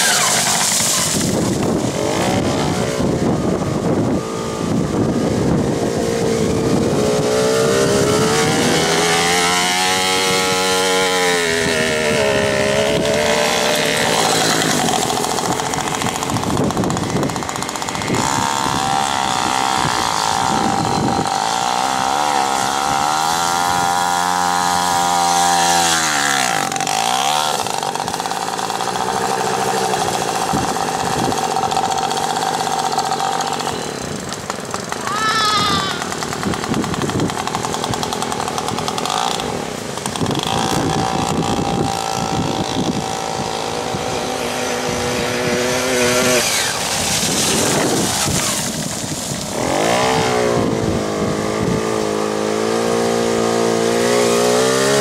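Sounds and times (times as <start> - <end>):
two-stroke engines revving: 0.0 - 55.0.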